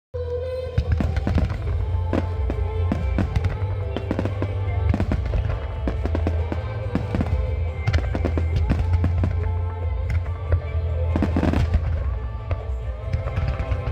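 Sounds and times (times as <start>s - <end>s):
firework bangs and cracks: 0.8s - 13.9s.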